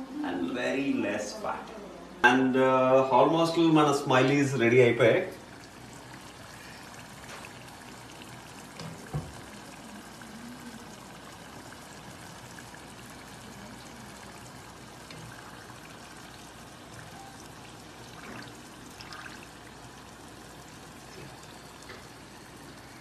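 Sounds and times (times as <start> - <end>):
food deep-frying in oil: 3.4 - 23.0.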